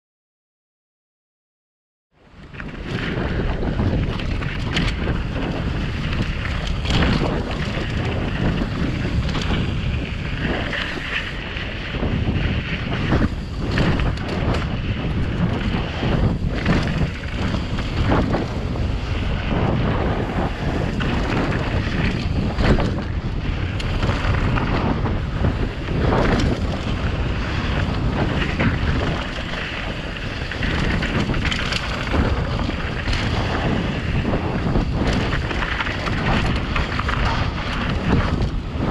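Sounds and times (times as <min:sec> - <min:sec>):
wind buffeting microphone: 0:02.2 - 0:38.9
bike clattering over bumps: 0:02.5 - 0:38.9
tyres rolling on dirt: 0:02.5 - 0:38.9.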